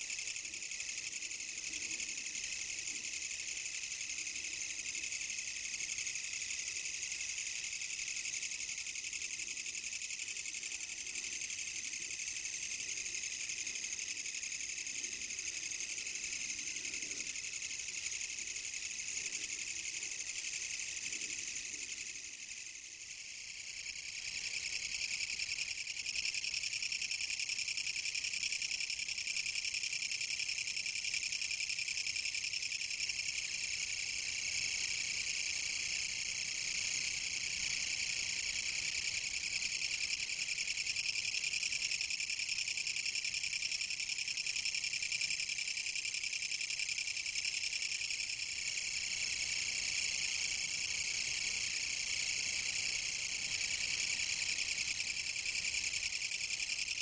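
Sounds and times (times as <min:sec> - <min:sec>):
katydid stridulating buzz: 0:00.1 - 0:57.0.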